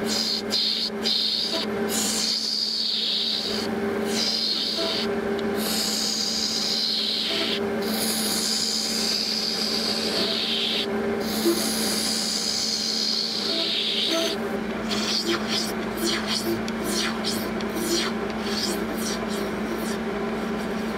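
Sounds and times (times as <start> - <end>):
lathe motor humming: 0.0 - 20.9
turning tool scraping hiss: 0.0 - 20.9.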